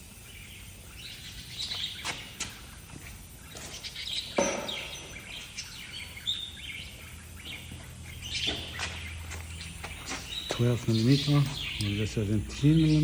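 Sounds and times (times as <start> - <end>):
low steady hum: 0.0 - 13.0
birds chirping: 0.2 - 13.0.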